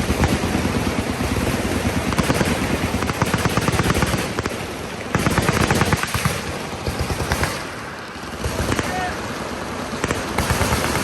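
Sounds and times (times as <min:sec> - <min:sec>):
machine guns firing: 0:00.0 - 0:07.8, 0:08.4 - 0:09.2, 0:10.0 - 0:11.0.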